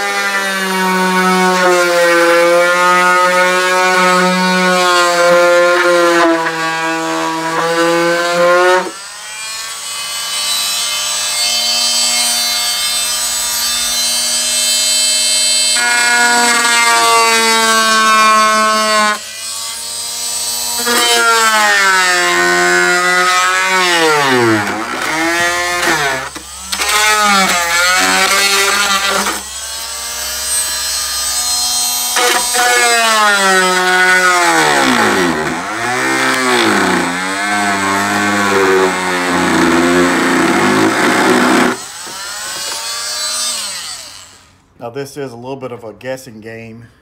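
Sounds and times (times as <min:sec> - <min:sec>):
oscillating multi-tool whining: 0:00.0 - 0:44.6.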